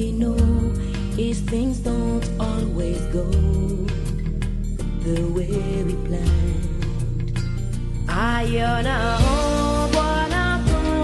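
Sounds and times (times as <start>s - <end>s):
music with beat and bass: 0.0s - 11.0s.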